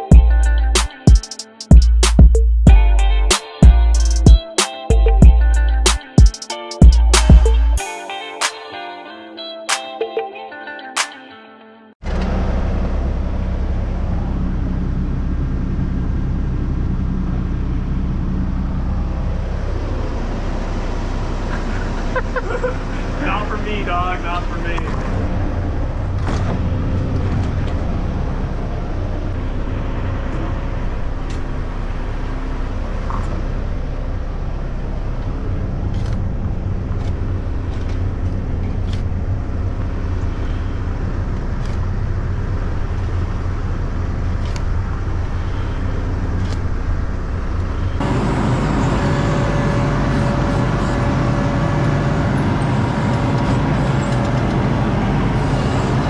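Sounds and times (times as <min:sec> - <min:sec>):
diesel engine running: 0:00.0 - 0:00.9, 0:01.7 - 0:06.0, 0:12.0 - 0:56.0.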